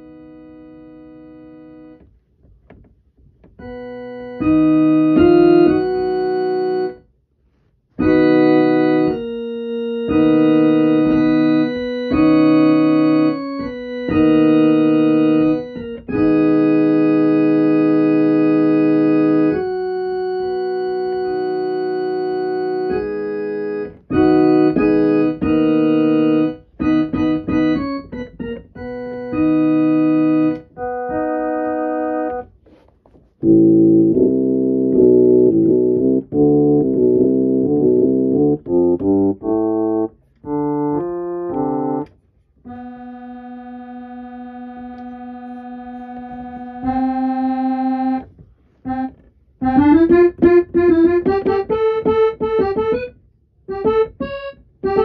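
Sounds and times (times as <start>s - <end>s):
electronic keyboard playing: 0.0s - 2.1s, 3.4s - 7.1s, 8.0s - 32.6s, 33.4s - 55.0s.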